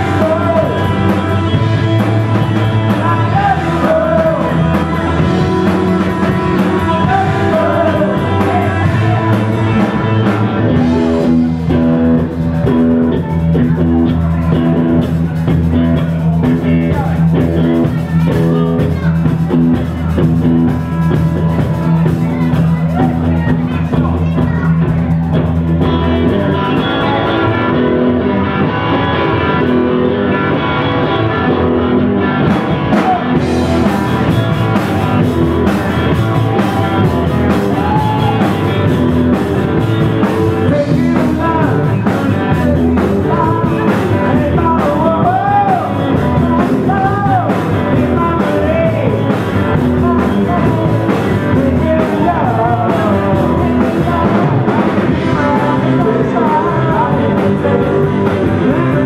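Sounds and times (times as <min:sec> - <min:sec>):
person singing: 0:00.0 - 0:31.7, 0:32.4 - 0:59.0
live rock band playing: 0:00.0 - 0:59.0.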